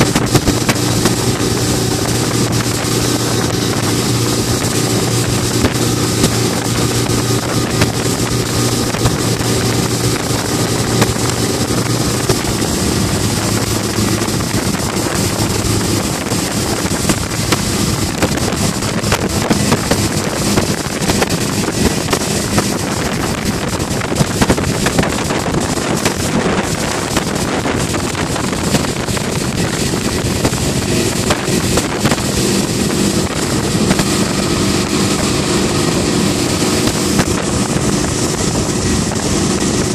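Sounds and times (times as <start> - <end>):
outboard motor running: 0.0 - 39.9
rush of boat wake: 0.0 - 39.9
wind buffeting microphone: 0.0 - 39.9.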